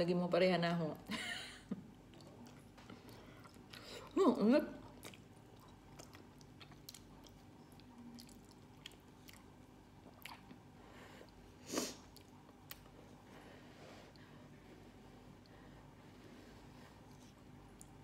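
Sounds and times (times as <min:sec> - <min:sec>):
faint chewing: 0:01.9 - 0:18.0.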